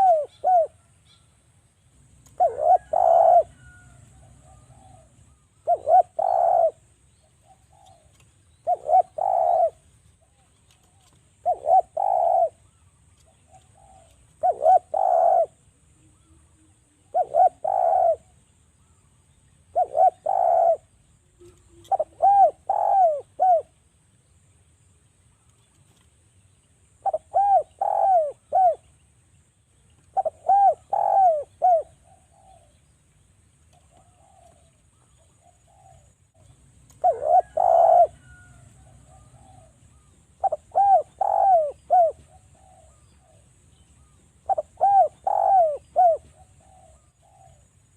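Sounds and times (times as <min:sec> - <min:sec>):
dove cooing: 0:00.0 - 0:01.0, 0:02.2 - 0:19.0, 0:19.7 - 0:23.8, 0:27.0 - 0:29.0, 0:30.0 - 0:32.9, 0:33.7 - 0:47.9.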